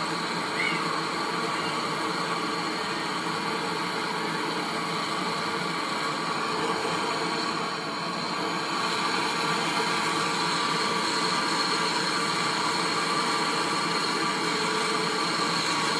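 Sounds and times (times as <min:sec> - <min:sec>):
steady hissing noise: 0:00.0 - 0:15.9.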